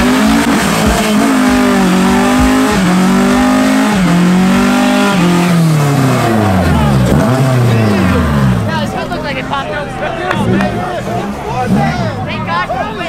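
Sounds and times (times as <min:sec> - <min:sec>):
car engine revving: 0:00.0 - 0:13.0
tyres spinning: 0:00.0 - 0:13.0.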